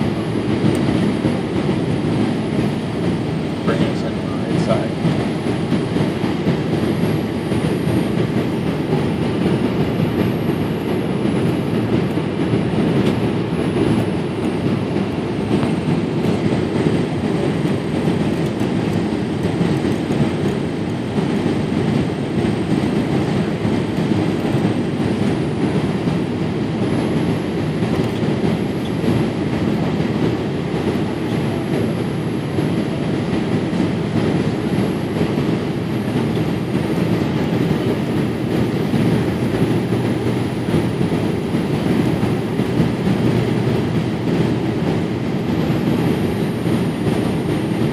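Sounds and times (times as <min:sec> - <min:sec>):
airplane cabin engine rush: 0:00.0 - 0:47.9.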